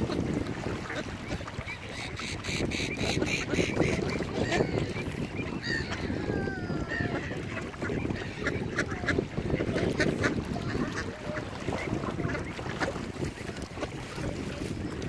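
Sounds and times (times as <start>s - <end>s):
waterbirds calling: 0.0s - 15.0s
wind rumble on microphone: 0.0s - 15.0s.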